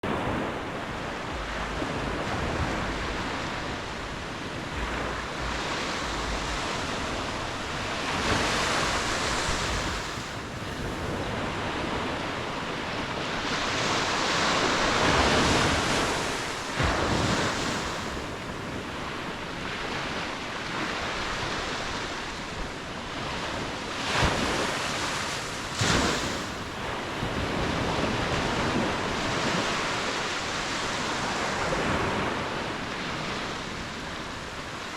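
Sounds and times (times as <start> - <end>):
ocean waves breaking: 0.0 - 34.9
wind rumble on microphone: 0.0 - 34.9.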